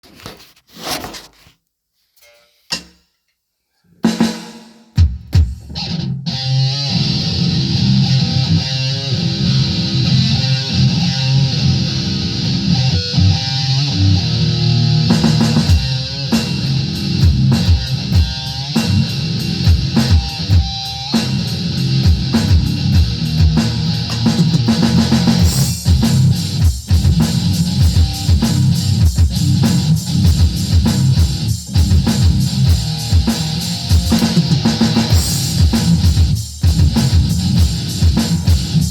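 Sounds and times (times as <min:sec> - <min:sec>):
instrumental rock music: 0:04.1 - 0:38.9.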